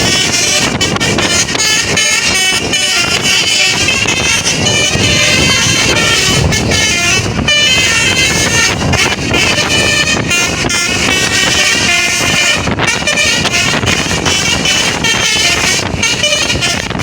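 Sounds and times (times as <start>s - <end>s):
engine and road noise: 0.0s - 17.0s
musical bus horn melody: 0.0s - 17.0s.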